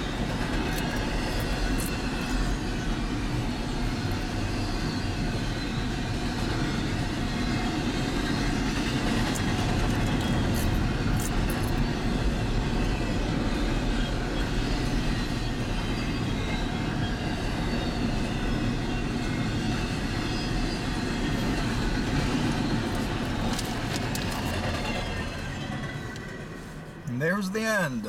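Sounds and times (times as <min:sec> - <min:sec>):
steel wheels rumbling on rail: 0:00.0 - 0:27.1.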